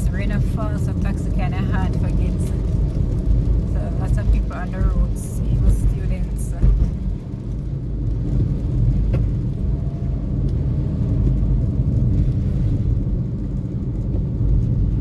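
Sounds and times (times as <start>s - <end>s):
car engine and tyres rumble: 0.0s - 15.0s.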